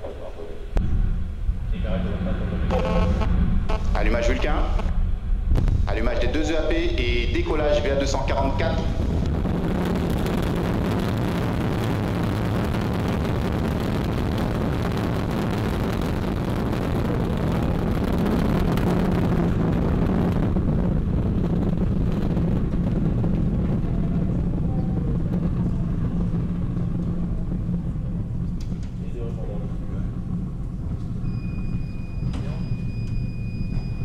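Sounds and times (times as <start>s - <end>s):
loud rocket engine roar: 0.6s - 34.0s.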